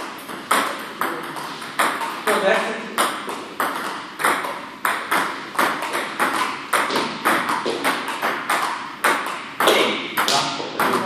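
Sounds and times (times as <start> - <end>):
ball bouncing on table: 0.0 - 2.3, 3.0 - 11.0
ping-pong ball clicking off paddles: 0.0 - 11.0.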